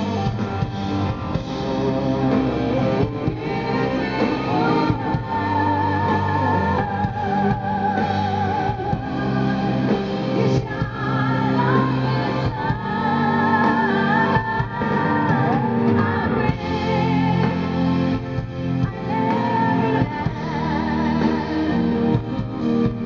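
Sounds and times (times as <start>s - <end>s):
drums: 0.0s - 23.0s
electric guitar: 0.0s - 23.0s
woman singing with vibrato: 2.3s - 23.0s.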